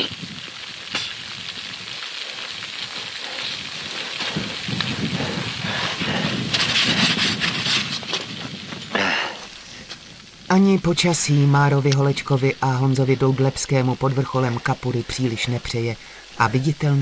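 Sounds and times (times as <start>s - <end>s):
wind and blowing snow on microphone: 0.0s - 15.6s.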